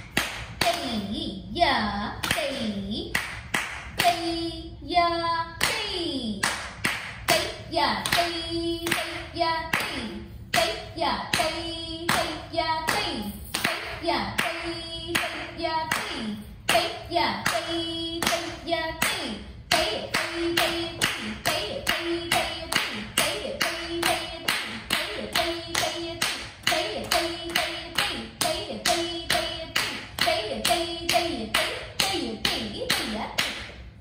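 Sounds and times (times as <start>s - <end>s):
person chanting rhythm syllables: 0.0s - 34.0s.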